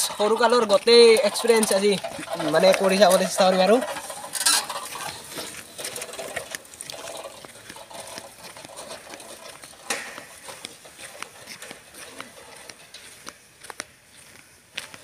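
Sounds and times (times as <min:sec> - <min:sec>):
bicycle chain and frame rattling: 0:00.0 - 0:13.3.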